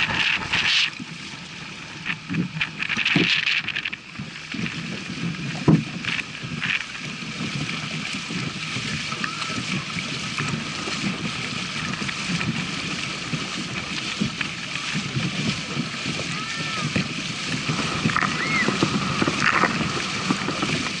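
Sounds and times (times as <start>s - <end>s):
kayak sloshing through water: 0.0s - 21.0s
legs splashing through water: 0.0s - 21.0s.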